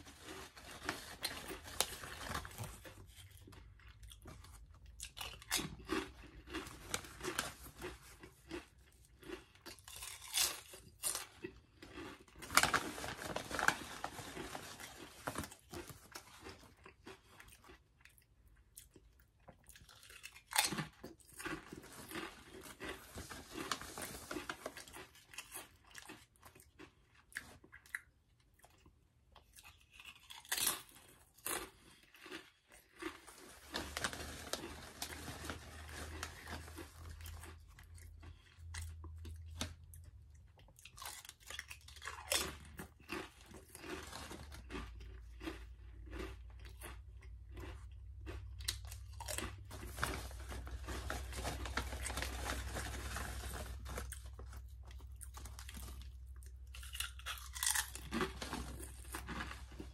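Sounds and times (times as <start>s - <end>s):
crunching and chewing potato chips: 0.0s - 59.9s.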